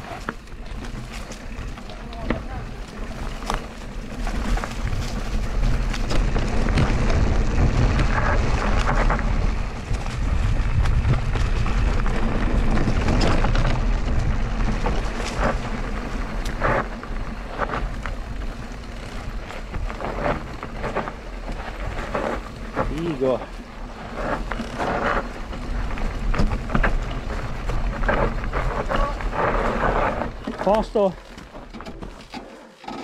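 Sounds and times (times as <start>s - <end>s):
wind buffeting microphone: 0.0s - 30.5s
bike knocks and rattles: 0.0s - 33.0s
mountain bike rolling on dirt: 0.0s - 33.0s.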